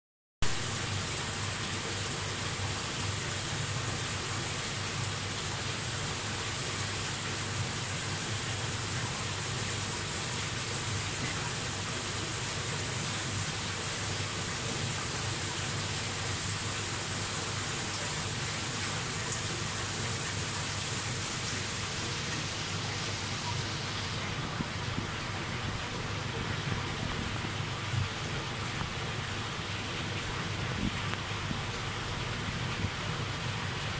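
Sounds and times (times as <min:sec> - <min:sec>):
low pump hum: 0:00.4 - 0:33.9
water rushing and splashing: 0:00.4 - 0:33.9.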